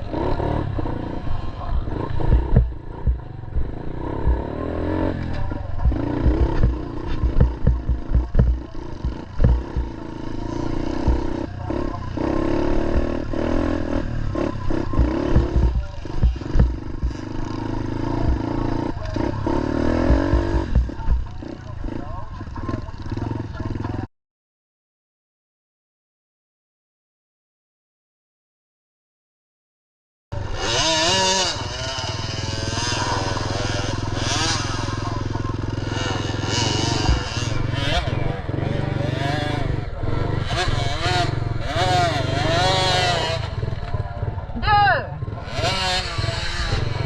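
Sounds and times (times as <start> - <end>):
small motorbike engine revving: 0.0 - 24.1, 30.4 - 47.0.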